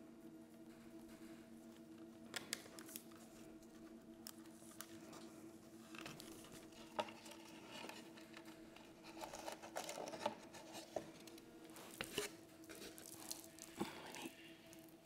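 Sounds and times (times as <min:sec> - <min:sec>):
steady low hum: 0:00.0 - 0:15.0
soft rustling: 0:02.9 - 0:15.0.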